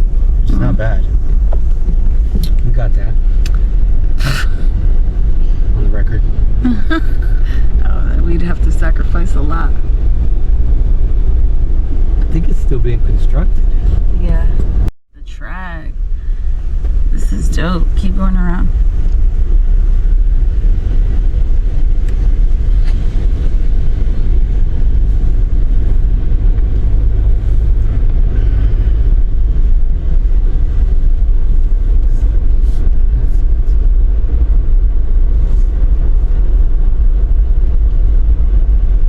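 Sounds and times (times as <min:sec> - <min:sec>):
road rumble inside truck cabin: 0:00.0 - 0:39.0.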